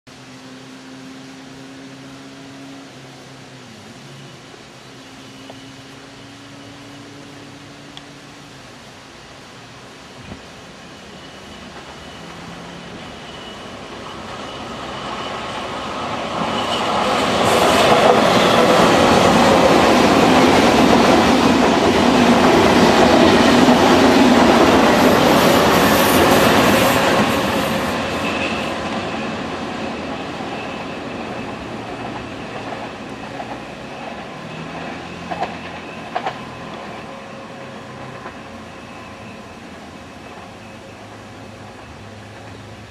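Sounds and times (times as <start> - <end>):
high-speed train passing: 0.1 - 42.9.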